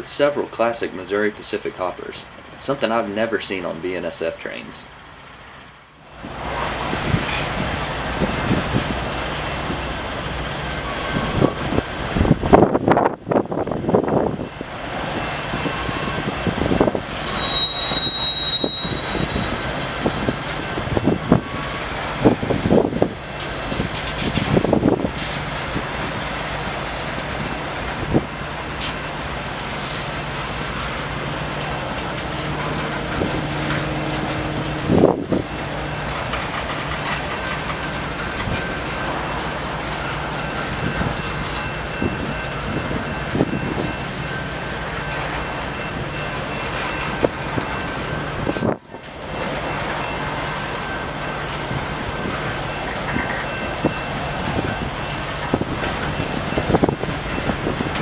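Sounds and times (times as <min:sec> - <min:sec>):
freight cars wheels rumbling: 0:00.0 - 0:58.0.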